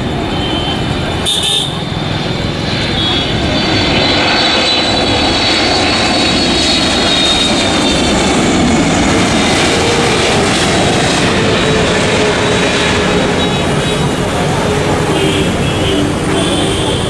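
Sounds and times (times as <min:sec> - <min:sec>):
airliner engines roaring: 0:00.0 - 0:17.0
high engine whine: 0:00.0 - 0:17.0.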